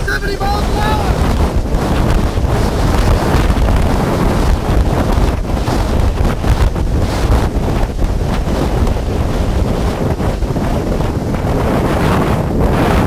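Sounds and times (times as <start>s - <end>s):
strong wind blasting microphone: 0.0s - 13.0s.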